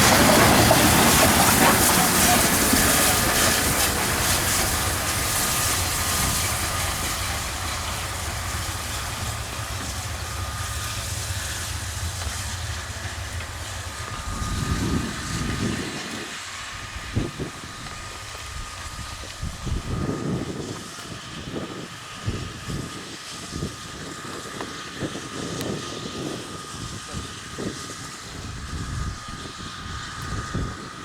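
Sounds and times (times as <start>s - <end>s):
steam train running past: 0.0s - 31.0s.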